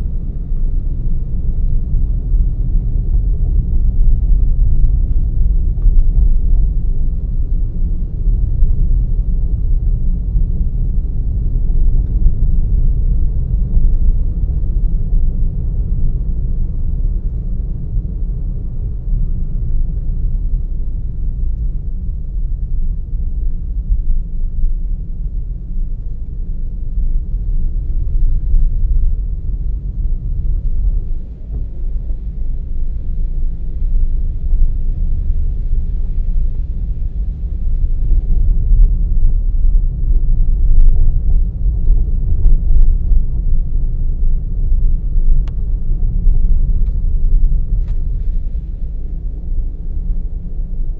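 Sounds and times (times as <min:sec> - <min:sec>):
car engine and road noise: 0:00.0 - 0:50.9.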